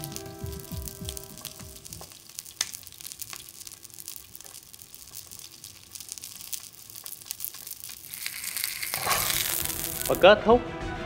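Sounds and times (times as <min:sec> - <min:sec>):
meat sizzling on a griddle: 0:00.0 - 0:10.3.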